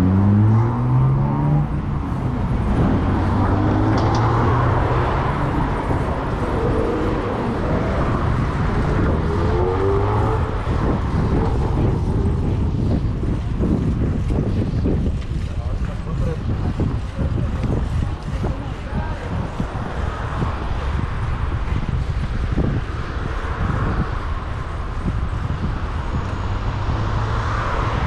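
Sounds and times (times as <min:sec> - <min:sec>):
vehicle engines speeding up: 0:00.0 - 0:28.0
wind rumble on microphone: 0:00.0 - 0:28.0.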